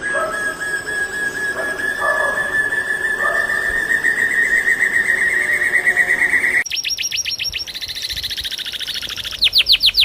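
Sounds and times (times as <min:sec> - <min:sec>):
bird trilling: 0:00.0 - 0:10.0
high bird chirps: 0:00.0 - 0:10.0.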